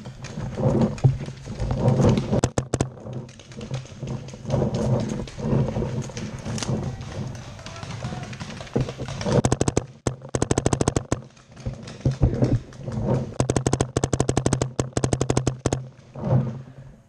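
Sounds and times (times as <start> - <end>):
paintball marker firing rapidly: 1.8 - 15.9.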